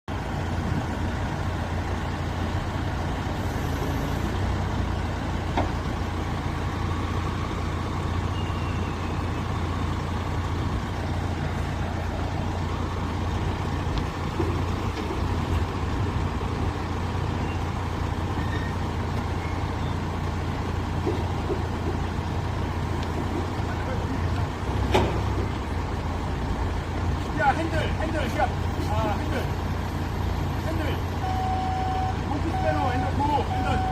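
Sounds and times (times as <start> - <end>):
heavy vehicle engine droning: 0.1 - 33.9.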